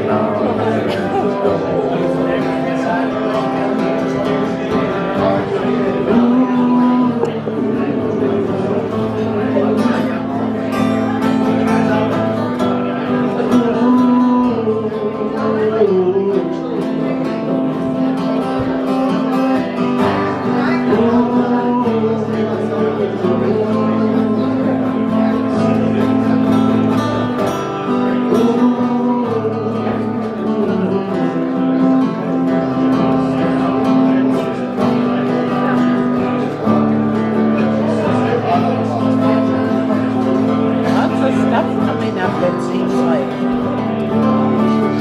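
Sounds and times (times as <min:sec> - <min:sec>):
acoustic guitars strumming: 0:00.0 - 0:45.0.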